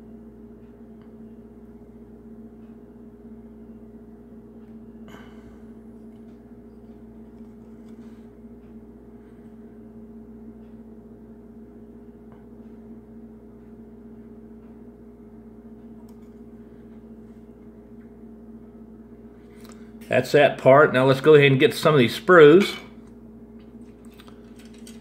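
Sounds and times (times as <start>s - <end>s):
low hum with two tones: 0.0s - 25.0s.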